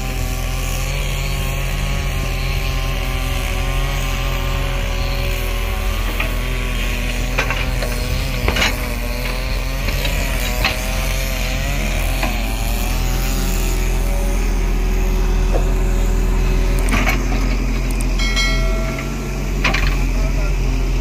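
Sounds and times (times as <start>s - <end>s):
diesel engine running under load: 0.0s - 21.0s
hydraulic whine: 0.0s - 21.0s.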